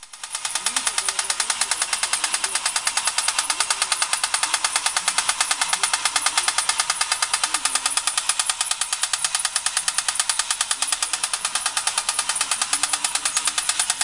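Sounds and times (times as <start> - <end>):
toy motor tinny clatter: 0.0 - 14.0.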